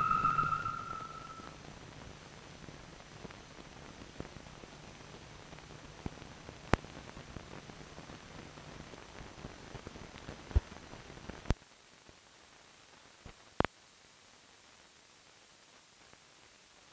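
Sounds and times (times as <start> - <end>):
old film hiss and crackle: 0.0 - 16.9.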